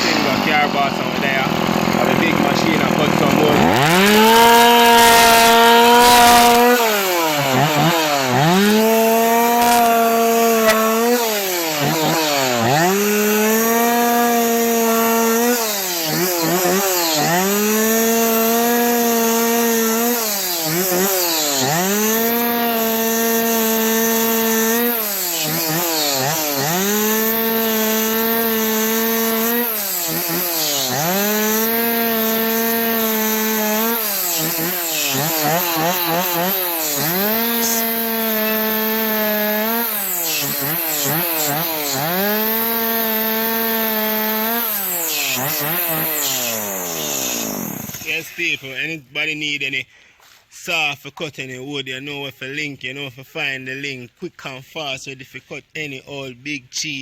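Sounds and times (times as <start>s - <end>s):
chainsaw cutting wood: 0.0s - 49.0s.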